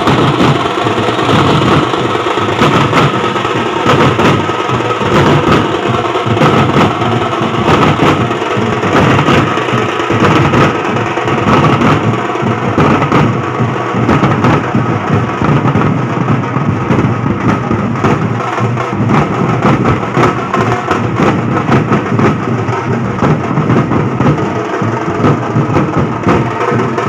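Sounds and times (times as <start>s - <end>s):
fast loud drumming: 0.0s - 27.0s.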